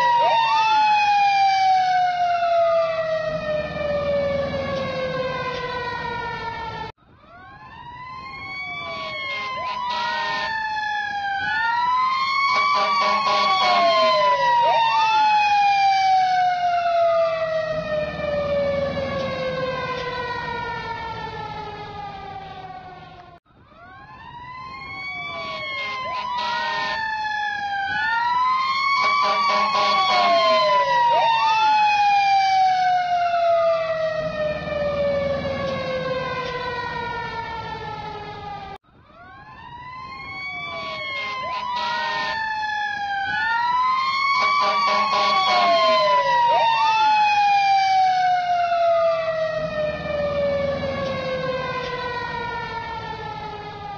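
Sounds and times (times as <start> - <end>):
fire truck siren wailing: 0.0 - 53.9.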